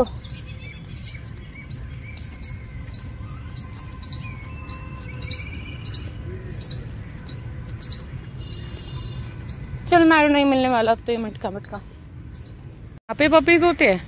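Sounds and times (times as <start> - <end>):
footsteps on brick path: 0.0 - 12.3
small birds chirping: 0.0 - 13.0.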